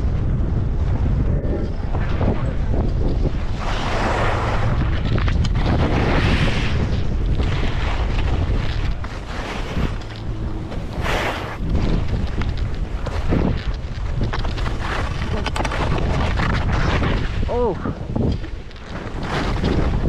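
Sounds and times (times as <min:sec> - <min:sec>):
wind buffeting microphone: 0:00.0 - 0:20.0
skis scraping across snow: 0:00.3 - 0:20.0.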